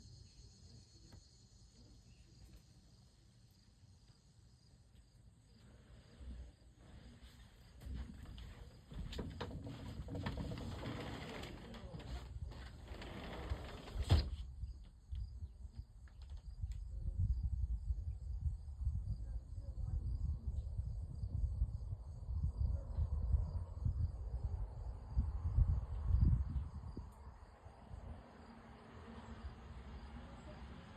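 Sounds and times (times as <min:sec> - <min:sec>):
low uneven rumble: 0:05.3 - 0:30.9.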